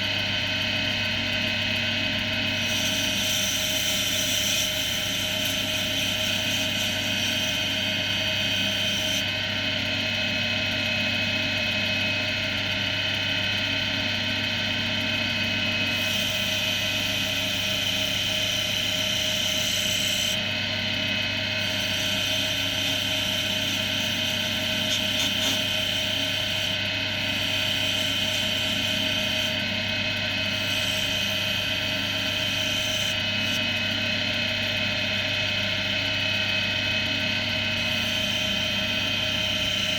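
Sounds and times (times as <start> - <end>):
wood lathe motor hum: 0.0 - 39.9.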